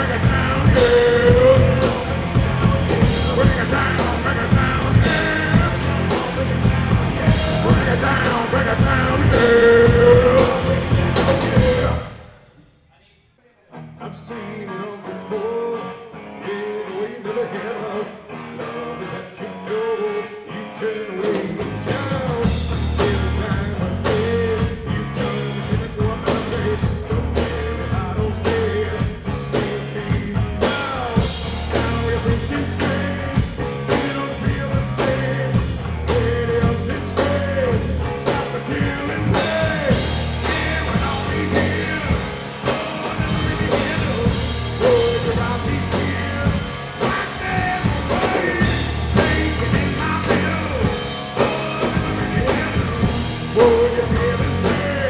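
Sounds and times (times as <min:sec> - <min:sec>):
rock music with singing: 0:00.0 - 0:12.7, 0:13.6 - 0:55.0.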